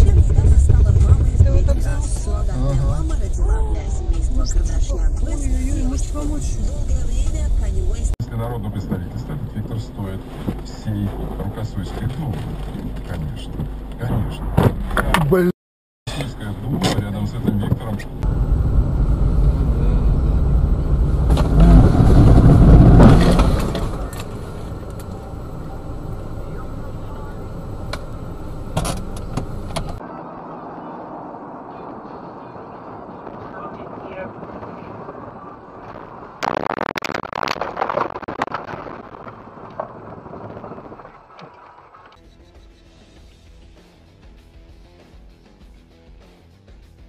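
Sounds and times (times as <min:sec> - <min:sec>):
car engine and road noise: 0:00.0 - 0:15.5, 0:16.1 - 0:45.1.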